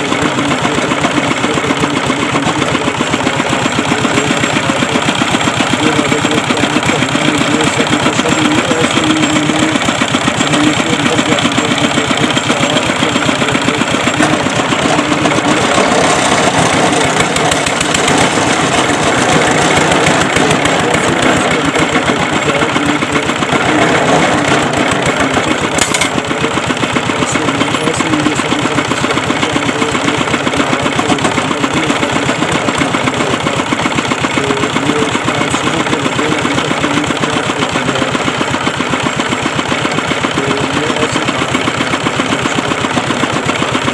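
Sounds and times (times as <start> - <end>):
engine chugging: 0.0 - 43.9.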